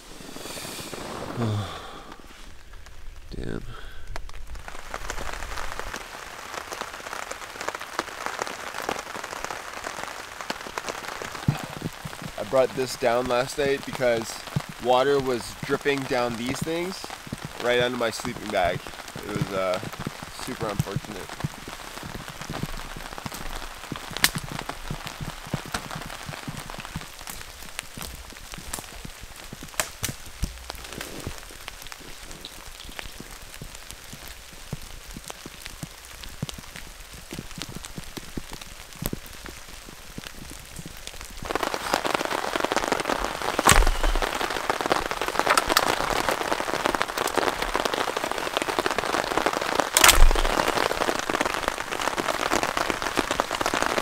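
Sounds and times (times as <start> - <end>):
rain pattering on a tarp: 0.0 - 54.0
steady rain in woods: 0.0 - 54.0.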